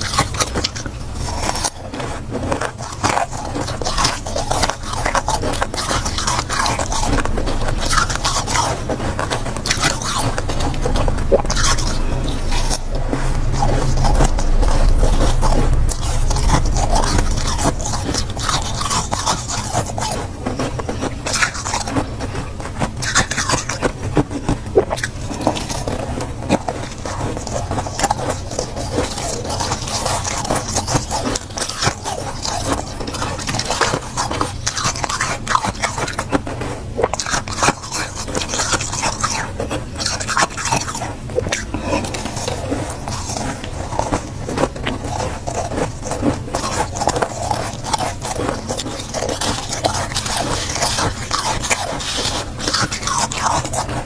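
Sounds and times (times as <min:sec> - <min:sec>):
biting and crunching frost: 0:00.0 - 0:54.0
metal spoon scraping frost: 0:00.0 - 0:54.0.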